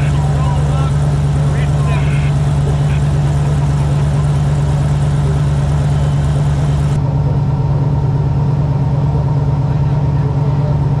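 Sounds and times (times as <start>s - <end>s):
race car engine idling: 0.0s - 11.0s.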